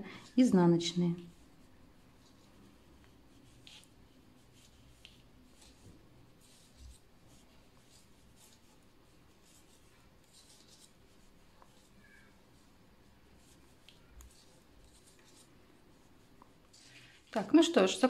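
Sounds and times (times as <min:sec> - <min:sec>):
knitting needles ticking and yarn rustling: 0:01.2 - 0:17.9.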